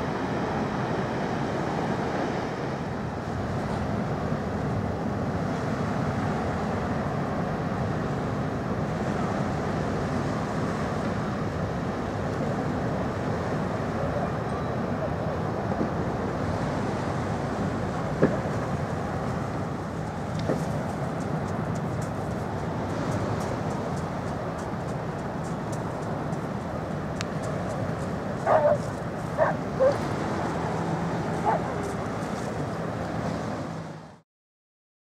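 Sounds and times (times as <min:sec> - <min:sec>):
ferry engines rumbling: 0:00.0 - 0:34.2.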